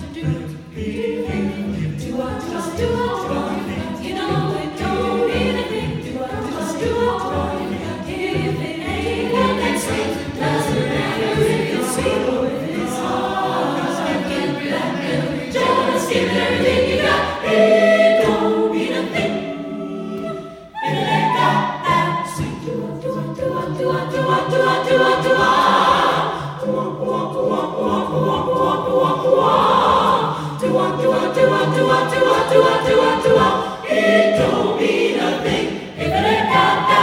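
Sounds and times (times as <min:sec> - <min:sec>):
vocal ensemble singing in harmony: 0:00.0 - 0:37.0.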